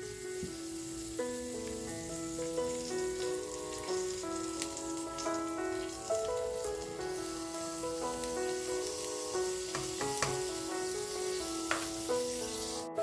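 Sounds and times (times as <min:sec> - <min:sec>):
background music: 0:00.0 - 0:13.0
food sizzling in a pan: 0:00.0 - 0:13.0.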